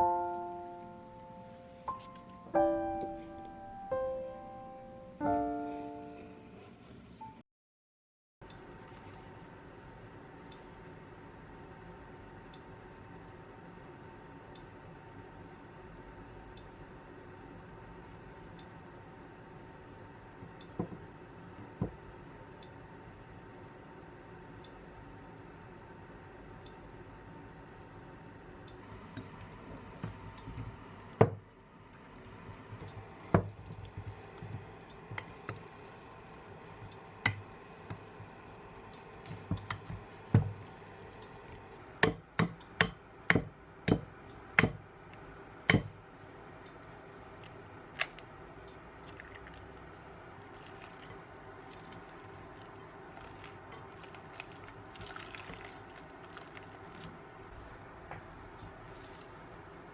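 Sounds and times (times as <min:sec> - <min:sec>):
faint steady hum: 0:00.0 - 0:07.4, 0:08.4 - 0:59.9.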